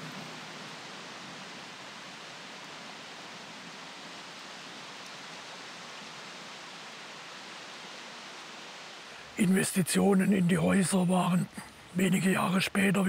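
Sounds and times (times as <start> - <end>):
river hiss: 0.0 - 13.0.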